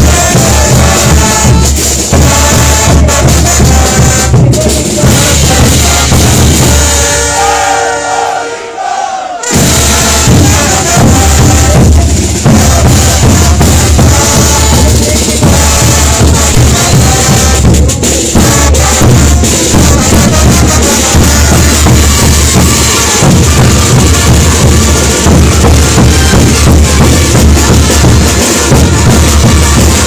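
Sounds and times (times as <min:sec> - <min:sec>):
bass drums beating: 0:00.0 - 0:07.7, 0:09.4 - 0:30.0
brass band playing: 0:00.0 - 0:30.0.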